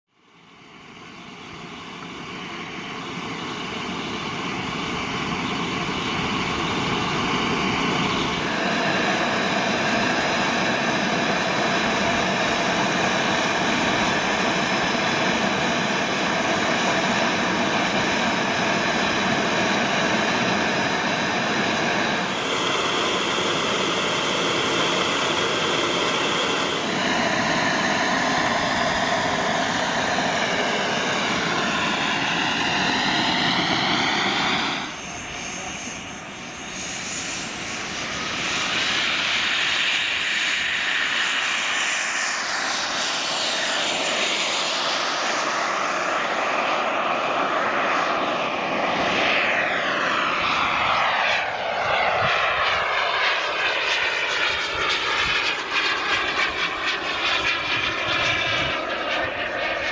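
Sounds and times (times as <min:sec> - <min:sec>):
model jet turbine running: 0:00.2 - 0:59.9.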